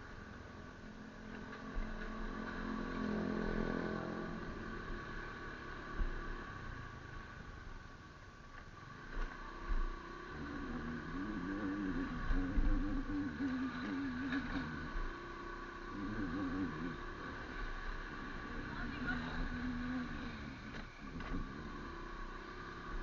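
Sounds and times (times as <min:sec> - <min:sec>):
motor vehicle running: 0:00.0 - 0:23.0.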